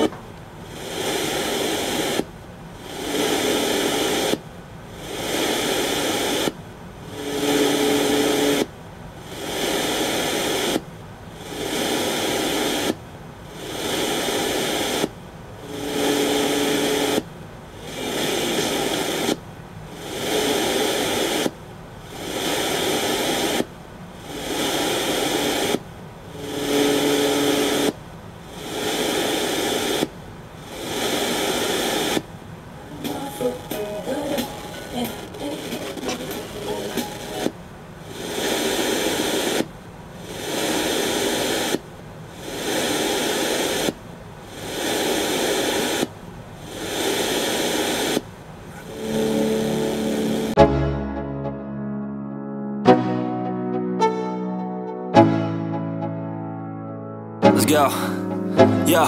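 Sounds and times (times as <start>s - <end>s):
radio static hiss: 0.0s - 50.6s, 57.5s - 59.0s.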